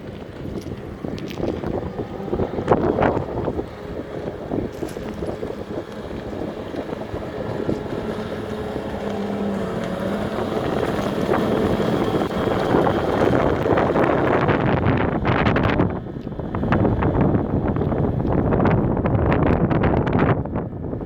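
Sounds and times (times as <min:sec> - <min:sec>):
boat engines running: 0:00.0 - 0:21.0
wind buffeting microphone: 0:00.0 - 0:21.0.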